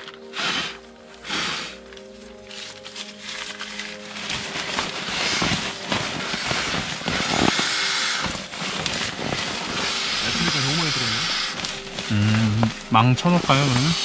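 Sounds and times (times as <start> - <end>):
nylon sack rustling: 1.8 - 14.0.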